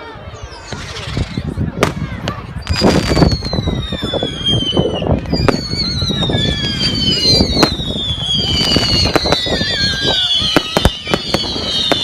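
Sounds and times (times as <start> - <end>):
whistling fireworks: 0.0 - 12.0
fireworks cracks and bangs: 0.6 - 12.0.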